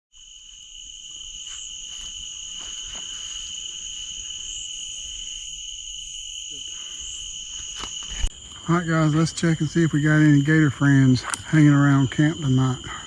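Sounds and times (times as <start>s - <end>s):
crickets trilling: 0.1s - 13.0s.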